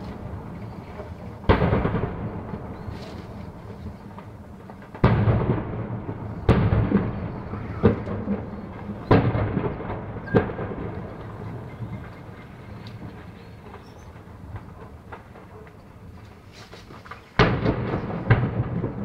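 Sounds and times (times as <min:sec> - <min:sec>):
explosion blasts: 0:00.0 - 0:16.2, 0:17.4 - 0:19.0
rolling thunder-like rumble: 0:00.0 - 0:19.0.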